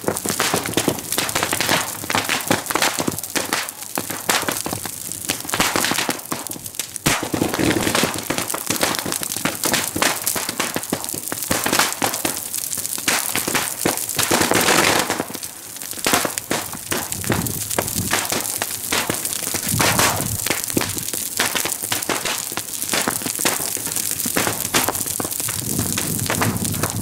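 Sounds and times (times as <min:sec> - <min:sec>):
bonfire crackling: 0:00.0 - 0:27.0
firecrackers bursting: 0:00.0 - 0:27.0.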